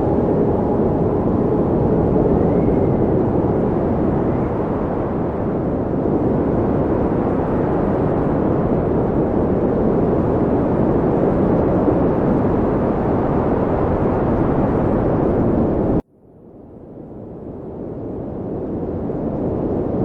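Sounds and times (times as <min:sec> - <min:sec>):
loud wind rushing: 0:00.0 - 0:16.0.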